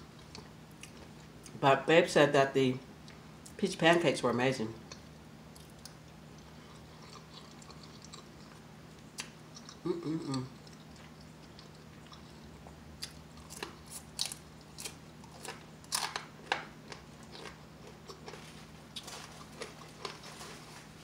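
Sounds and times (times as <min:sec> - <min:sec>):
crunching bacon being chewed: 0:00.0 - 0:01.6, 0:04.3 - 0:21.0.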